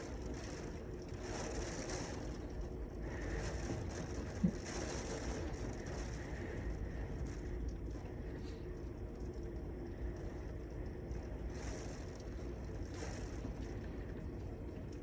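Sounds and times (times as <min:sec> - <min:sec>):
low rumble: 0:00.0 - 0:15.0
rain falling: 0:00.0 - 0:15.0.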